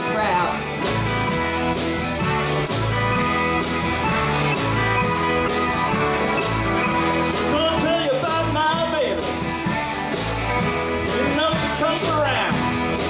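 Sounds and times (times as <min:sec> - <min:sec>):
live rock band playing: 0:00.0 - 0:13.0
bending melodic line: 0:01.0 - 0:13.0.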